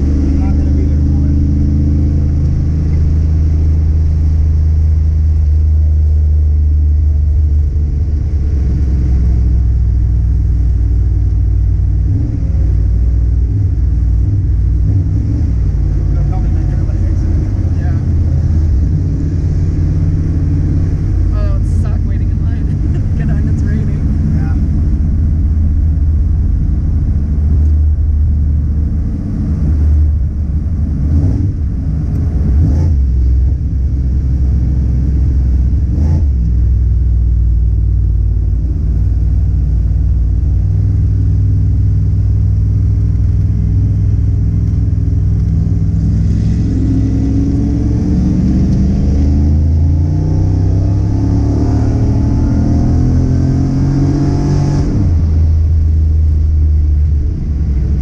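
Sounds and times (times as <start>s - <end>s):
car engine accelerating through gears: 0.0s - 58.0s.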